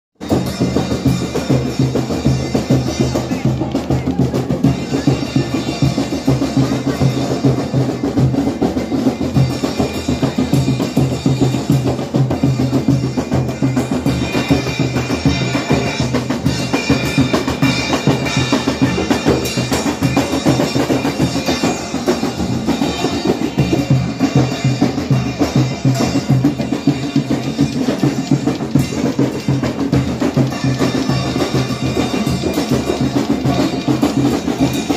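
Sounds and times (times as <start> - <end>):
hand drums beating: 0.2 - 34.9.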